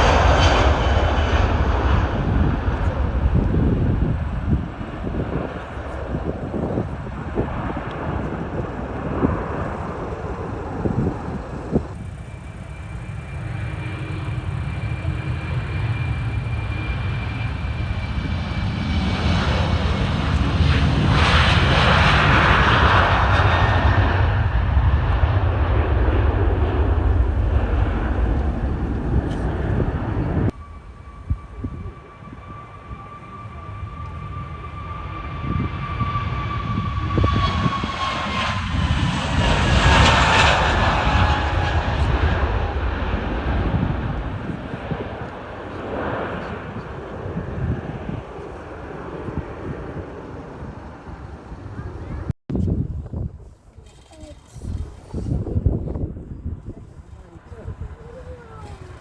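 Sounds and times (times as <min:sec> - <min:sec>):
jet airliner passing overhead: 0:00.0 - 0:59.0.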